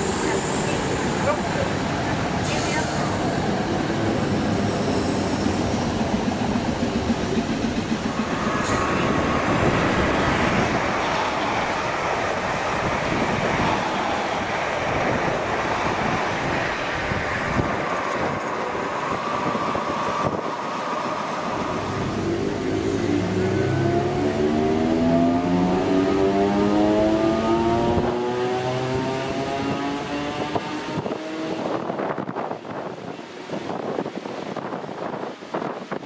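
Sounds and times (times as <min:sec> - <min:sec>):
train wheels rumbling: 0:00.0 - 0:35.9.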